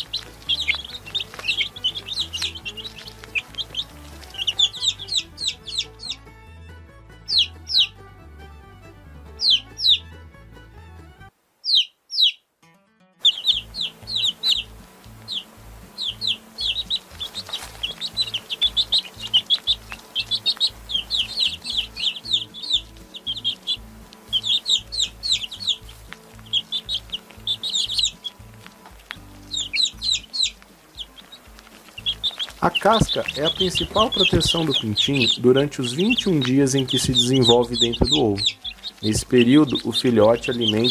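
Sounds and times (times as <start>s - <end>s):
baby chicks peeping: 0.0s - 6.5s, 7.1s - 10.4s, 11.6s - 12.5s, 13.2s - 40.9s.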